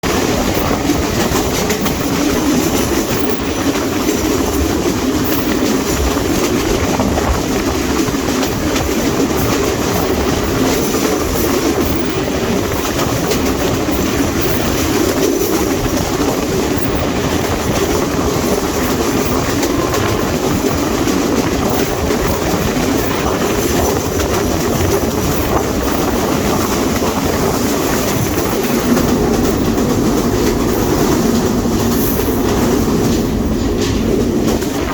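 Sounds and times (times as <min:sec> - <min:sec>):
train rumbling: 0:00.0 - 0:34.9
wheels clattering on rails: 0:00.0 - 0:34.9.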